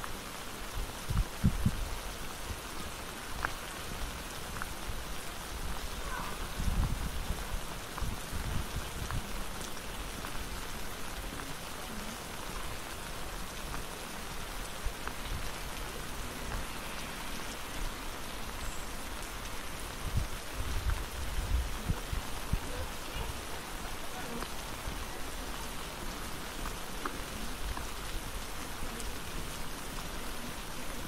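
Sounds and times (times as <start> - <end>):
rain on paved path: 0.0 - 31.0.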